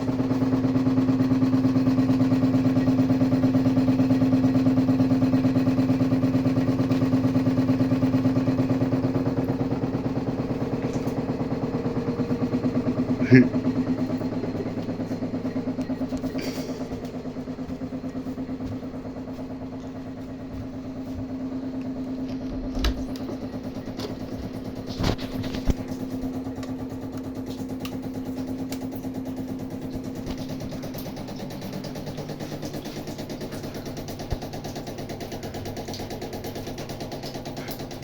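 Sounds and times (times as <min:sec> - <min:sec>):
water pipes humming: 0:00.0 - 0:38.0.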